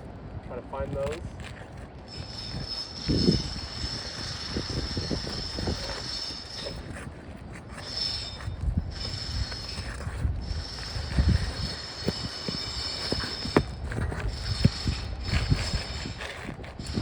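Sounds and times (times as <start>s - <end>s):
pry bar scraping shingles: 1.0s - 17.0s.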